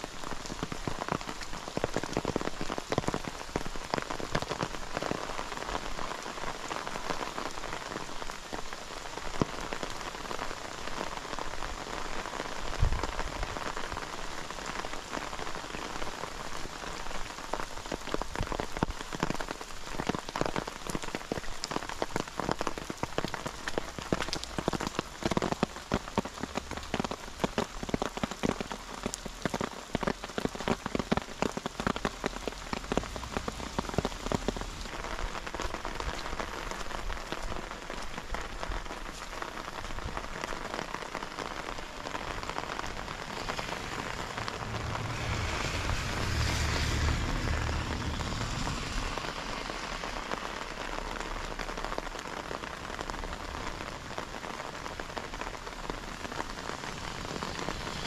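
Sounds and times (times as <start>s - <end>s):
close raindrop hits: 0.0s - 58.0s
steady rain falling: 0.0s - 58.0s.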